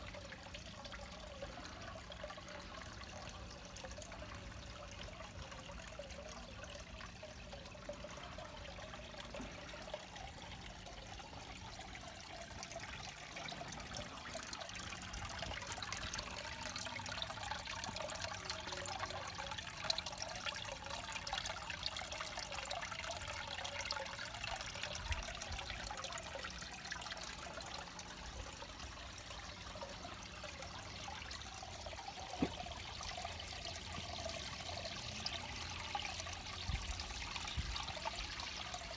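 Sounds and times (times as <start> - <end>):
water trickling into pond: 0.0 - 38.9
watering-can spouts pouring: 0.0 - 38.9.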